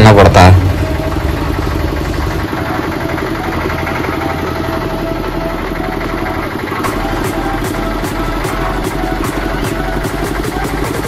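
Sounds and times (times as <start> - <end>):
diesel engine running: 0.0 - 11.0
regular ticking: 0.0 - 11.0.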